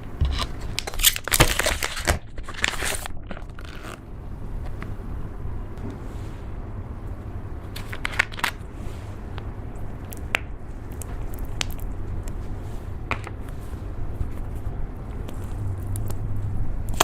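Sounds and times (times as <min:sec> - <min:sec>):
steady low rumble: 0:03.0 - 0:17.0.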